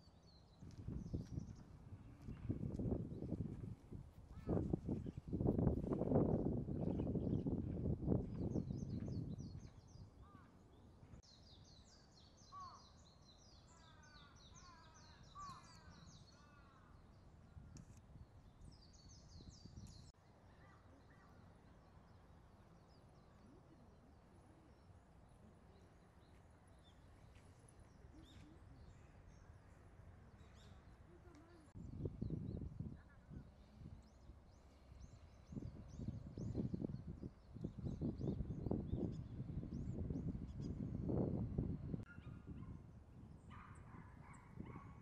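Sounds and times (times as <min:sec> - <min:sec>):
outdoor background noise: 0:00.0 - 0:45.0.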